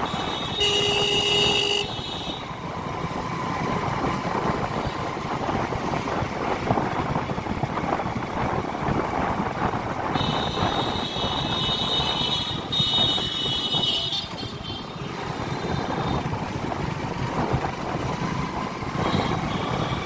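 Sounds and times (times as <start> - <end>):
motorcycle engine: 0.0 - 20.0
surrounding traffic: 0.0 - 20.0.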